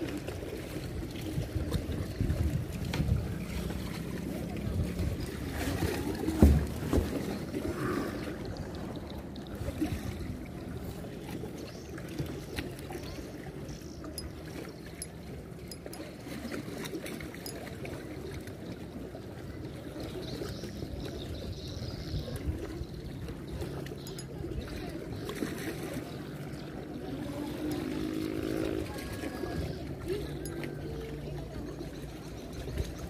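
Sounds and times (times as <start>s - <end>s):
low rumble of water: 0.0s - 33.0s.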